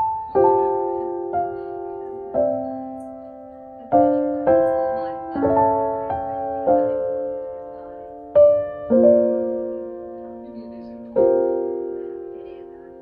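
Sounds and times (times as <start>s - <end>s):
slow solo piano music: 0.0s - 13.0s.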